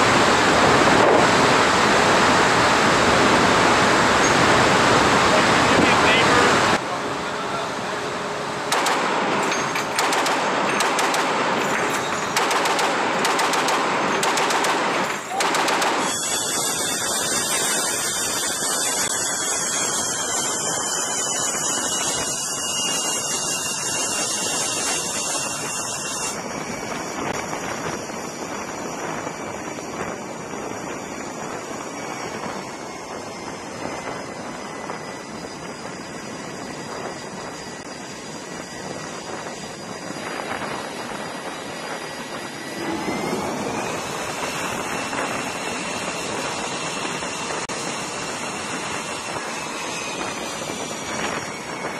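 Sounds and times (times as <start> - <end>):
jet engines rushing and whining: 0.0 - 51.9.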